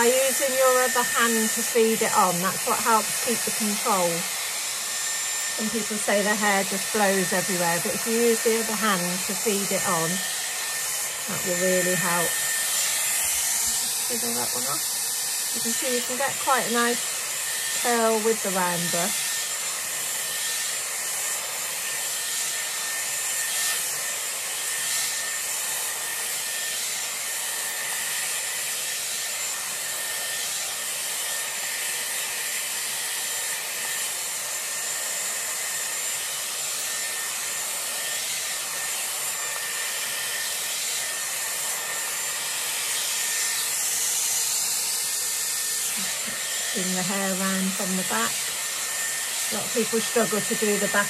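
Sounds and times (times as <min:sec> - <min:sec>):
hair dryer air rush with whine: 0:00.0 - 0:51.0.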